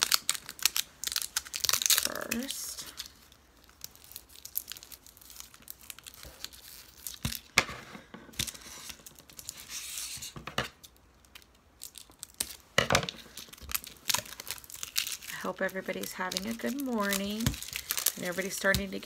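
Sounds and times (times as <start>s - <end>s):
wrapping being torn and crinkled: 0.0s - 7.6s, 8.3s - 19.0s.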